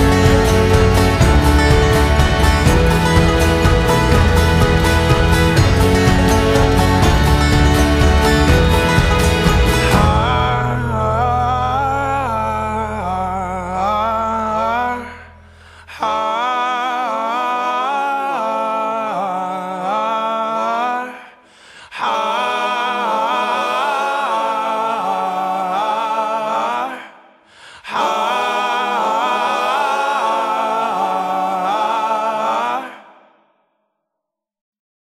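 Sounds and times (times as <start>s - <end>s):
voices singing in harmony: 0.0s - 33.4s.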